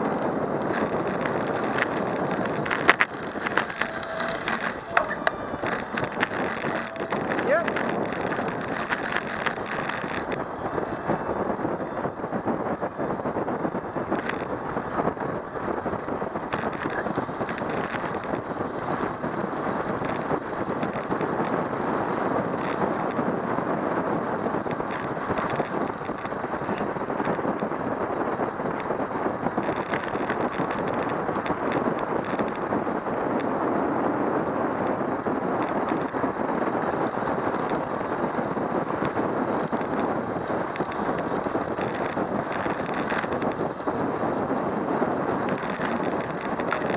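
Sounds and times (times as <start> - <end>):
small clicks and rattles: 0.0 - 28.0, 28.6 - 33.5, 34.7 - 46.9
wind rushing over microphone: 0.0 - 46.9.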